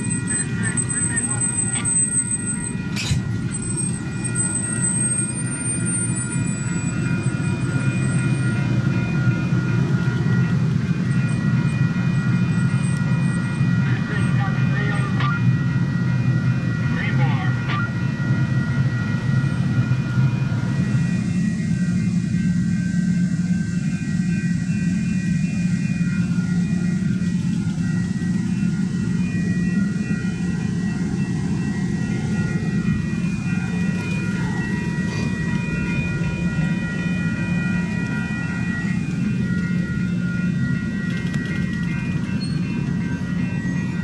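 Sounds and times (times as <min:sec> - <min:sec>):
train cars rumbling: 0:00.0 - 0:44.0.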